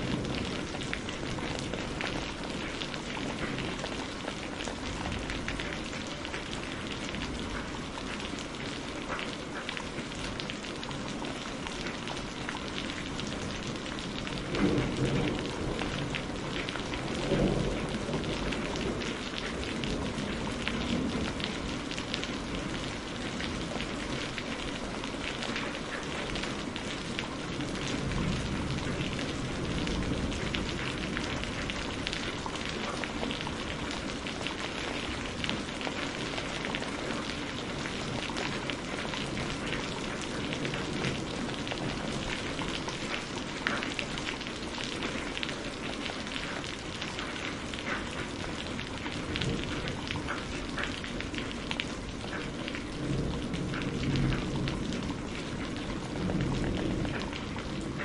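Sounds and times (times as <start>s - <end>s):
thunder rumbling: 0.0s - 8.0s, 11.2s - 45.8s, 48.1s - 58.0s
heavy rain: 0.0s - 58.0s.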